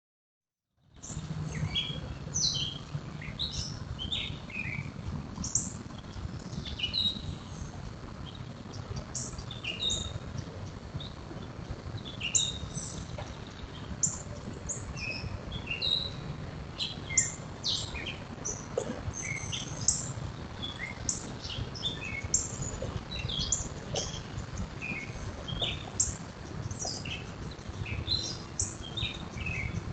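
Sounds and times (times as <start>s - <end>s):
low background rumble: 0.9s - 29.9s
birds chirping and calling: 1.0s - 29.9s.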